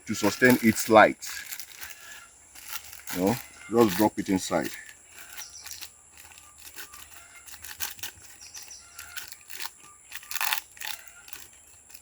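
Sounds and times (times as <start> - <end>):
crinkling and light clicks: 0.1 - 12.0.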